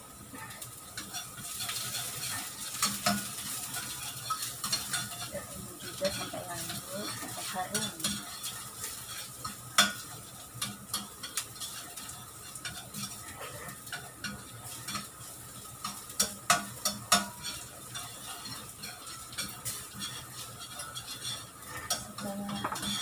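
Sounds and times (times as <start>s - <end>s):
garlic sizzling in hot oil: 0.0s - 23.0s
spatula scraping and clinking pan: 0.8s - 23.0s.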